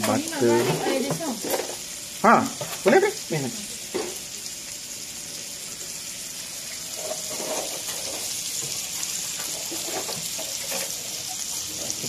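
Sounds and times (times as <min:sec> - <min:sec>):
steaks sizzling in pan: 0:00.0 - 0:12.0.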